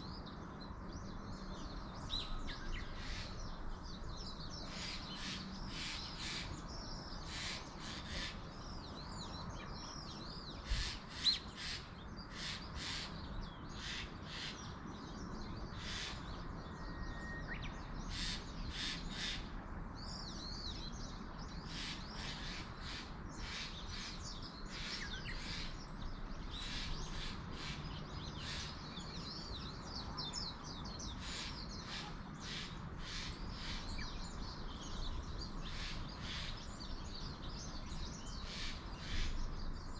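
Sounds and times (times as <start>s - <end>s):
outdoor background hiss: 0.0s - 39.9s
wild birds chirping: 0.0s - 39.9s.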